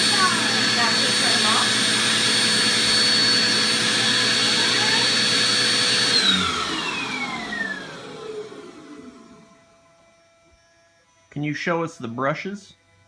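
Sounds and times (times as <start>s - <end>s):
vacuum cleaner motor whining: 0.0s - 12.1s.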